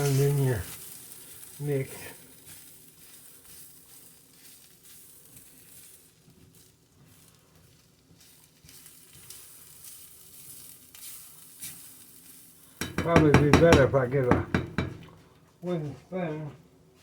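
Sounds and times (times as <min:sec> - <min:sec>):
faint sizzling in frying pan: 0:00.0 - 0:17.0.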